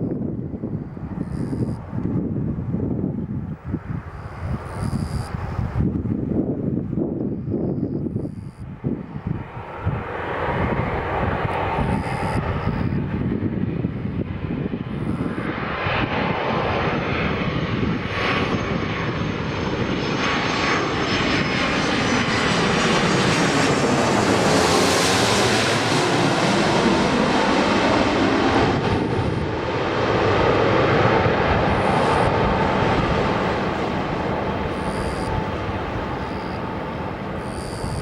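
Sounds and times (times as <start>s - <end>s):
jet engines roaring and whining: 0.0s - 38.0s.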